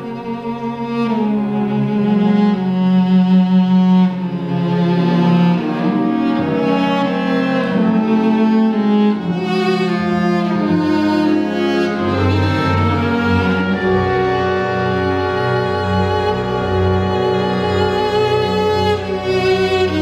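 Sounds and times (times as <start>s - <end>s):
cello playing bowed notes: 0.0s - 20.0s
orchestral strings: 0.0s - 20.0s.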